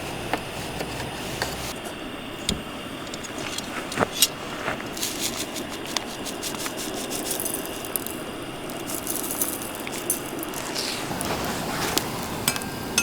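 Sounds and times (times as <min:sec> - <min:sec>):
steady low hiss: 0:00.0 - 0:13.0
wood fire crackling: 0:00.0 - 0:13.0.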